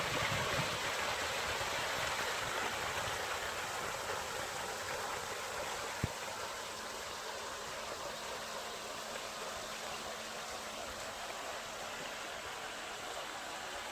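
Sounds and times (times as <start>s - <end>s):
waterfall pouring into pond: 0.0s - 13.9s.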